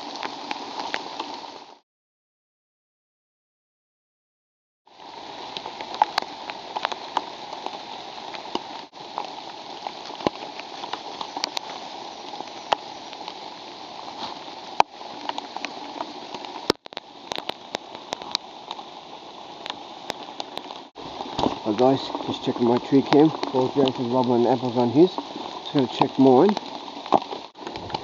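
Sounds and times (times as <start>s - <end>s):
raindrops ticking close by: 0.0s - 1.8s, 4.9s - 28.0s
steady rain falling: 0.0s - 1.8s, 4.9s - 28.0s.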